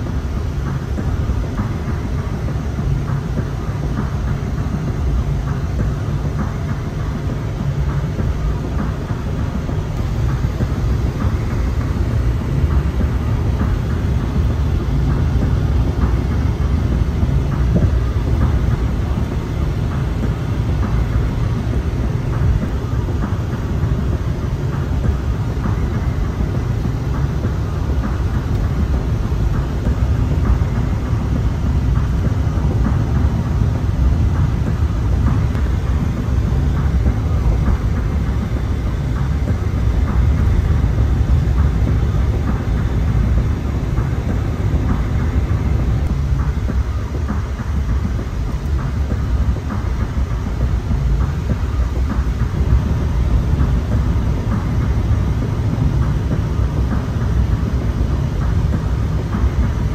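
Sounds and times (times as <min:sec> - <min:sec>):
car driving at highway speed: 0:00.0 - 0:59.9.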